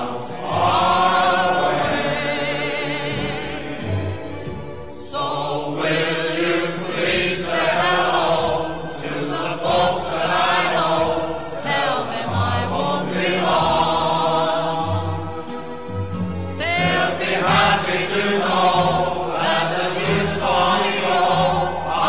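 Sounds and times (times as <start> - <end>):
choir-like singing: 0.0 - 22.0.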